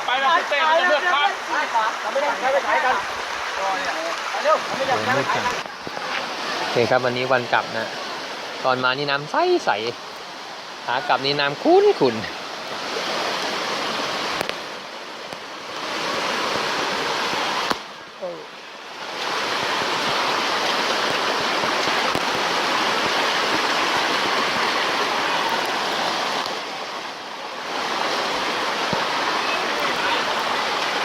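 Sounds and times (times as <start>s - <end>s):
stream rushing: 0.0s - 31.0s.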